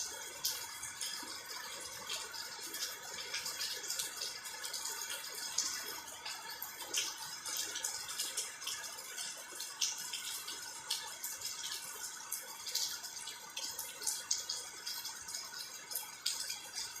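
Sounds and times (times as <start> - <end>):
drips and splashes: 0.0 - 17.0
rain falling: 0.0 - 17.0.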